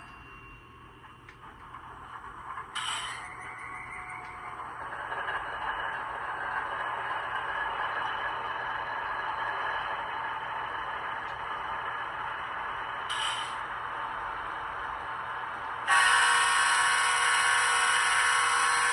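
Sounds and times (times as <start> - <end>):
model locomotive diesel engine sound: 0.0 - 18.9.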